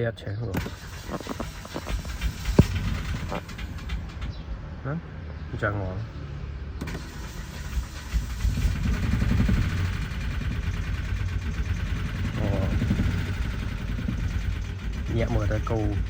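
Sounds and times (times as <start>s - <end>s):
abnormal engine noise: 0.4s - 16.0s
car engine running: 0.5s - 16.0s.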